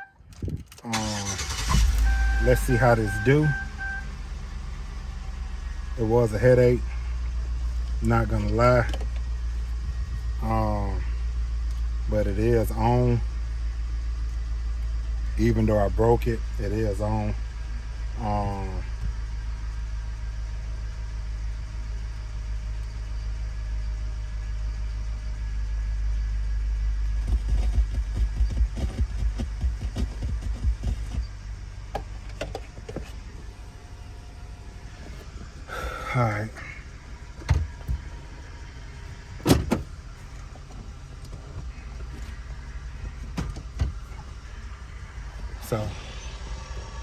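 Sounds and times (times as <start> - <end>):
car engine idling: 0.7 - 47.0.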